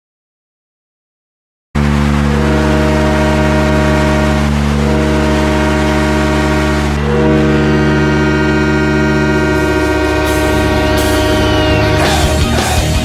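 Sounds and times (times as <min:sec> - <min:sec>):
multi-tone air horn: 0:01.8 - 0:12.8.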